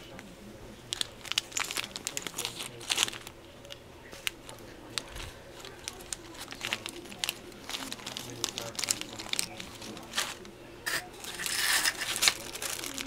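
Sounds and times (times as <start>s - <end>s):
plastic bag crinkling: 0.8s - 13.0s.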